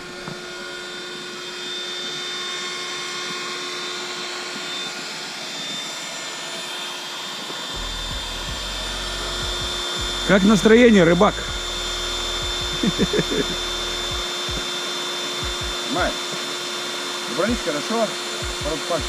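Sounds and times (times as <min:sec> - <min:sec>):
electric air pump humming: 0:00.0 - 0:19.0.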